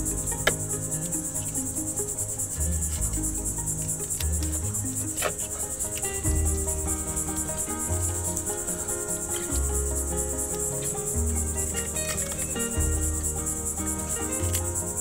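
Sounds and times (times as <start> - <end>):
background music: 0.0 - 15.0
insects chirping in a trill: 0.0 - 15.0.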